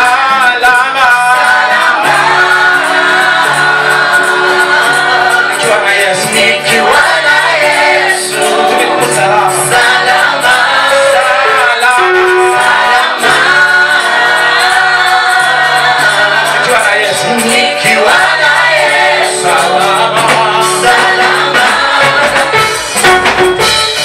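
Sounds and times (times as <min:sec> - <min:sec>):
choir singing gospel music: 0:00.0 - 0:24.0.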